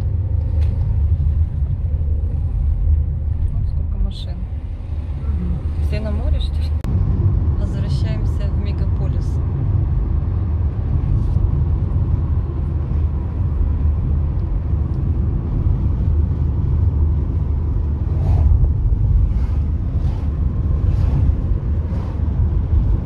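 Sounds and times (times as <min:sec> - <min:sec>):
car engine rumble: 0:00.0 - 0:23.0
tyres on asphalt: 0:00.0 - 0:23.0.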